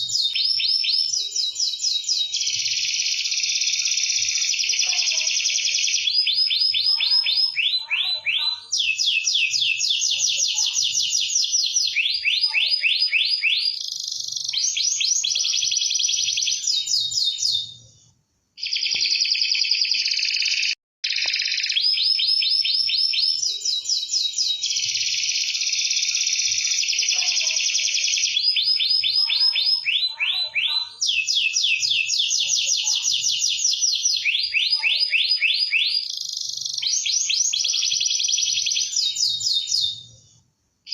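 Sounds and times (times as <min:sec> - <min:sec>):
canary singing trills: 0:00.0 - 0:17.9, 0:18.6 - 0:40.2.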